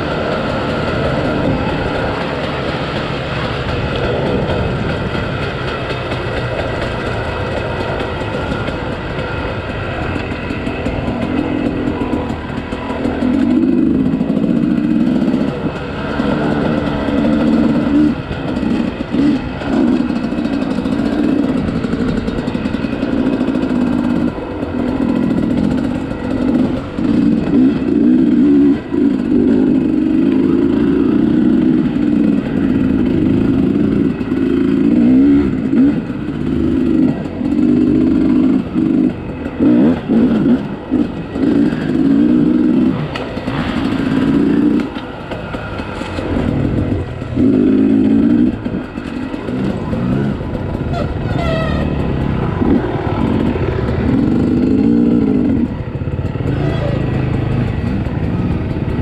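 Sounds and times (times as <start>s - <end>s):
two-stroke dirt bike engine revving: 0.0s - 59.0s.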